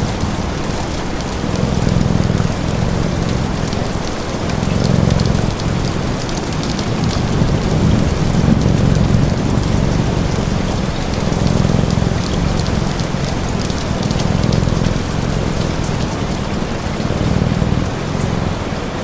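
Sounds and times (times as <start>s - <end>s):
fire crackling: 0.0s - 18.6s
low rumbling: 0.0s - 19.0s
steady rain: 0.0s - 19.0s.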